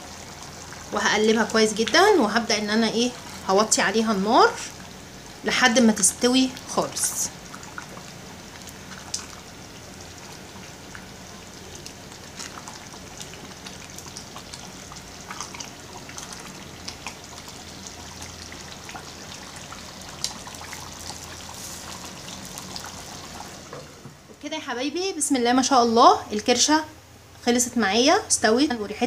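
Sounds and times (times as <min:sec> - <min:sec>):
stew bubbling in a pot: 0:00.0 - 0:24.4.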